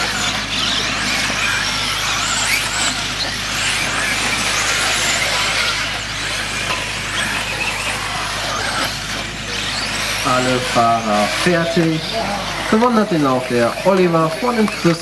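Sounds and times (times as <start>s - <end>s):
electric motor whines: 0.0s - 15.0s.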